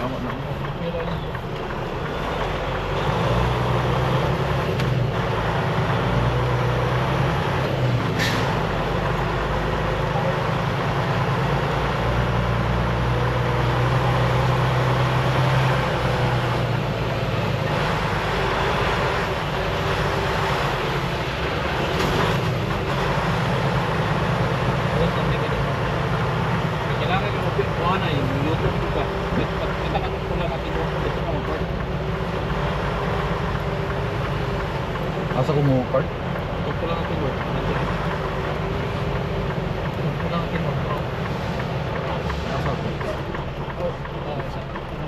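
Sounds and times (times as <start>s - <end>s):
truck diesel engine humming: 0.0s - 45.0s.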